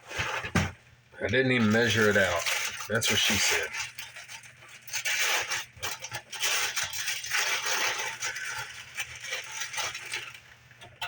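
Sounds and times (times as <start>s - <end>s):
dry cereal pouring into a bowl: 1.3s - 11.0s.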